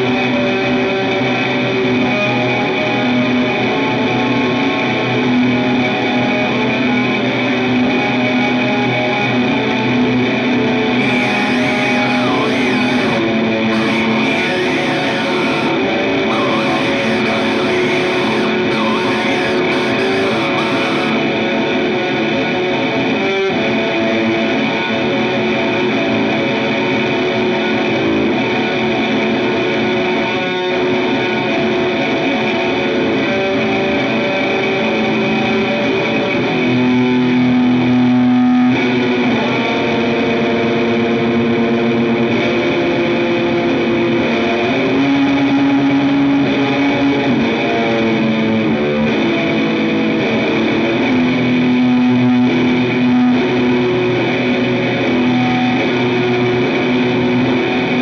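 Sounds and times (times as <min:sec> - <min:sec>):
distorted electric guitar: 0:00.0 - 0:58.0.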